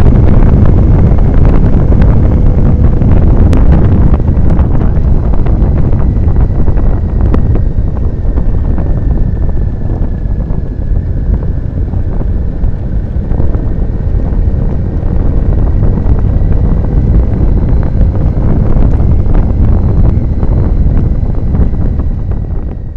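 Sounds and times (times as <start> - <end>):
motorcycle engine: 0.0 - 22.9
road noise: 0.0 - 22.9
wind buffeting on microphone: 0.0 - 22.9.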